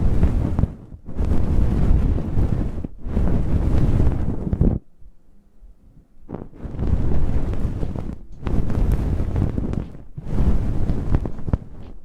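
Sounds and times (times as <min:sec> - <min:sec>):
hands rubbing against microphone: 0:00.0 - 0:04.8, 0:06.3 - 0:12.0.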